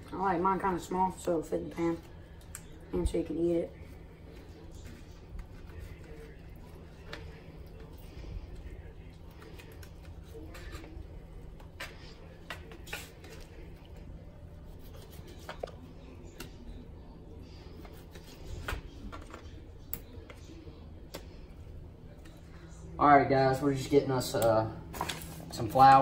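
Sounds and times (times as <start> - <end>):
low steady background hum: 0.0 - 26.0.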